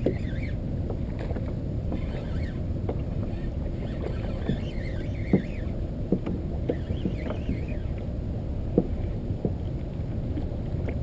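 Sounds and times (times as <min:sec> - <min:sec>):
waves lapping against kayak hull: 0:00.0 - 0:11.0.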